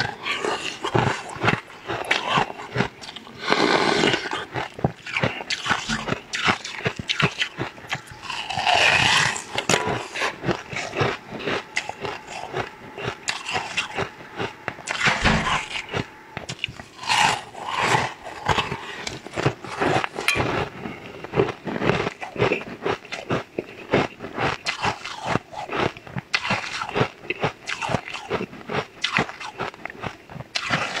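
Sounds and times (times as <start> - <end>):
chewing ice crunches: 0.0 - 31.0.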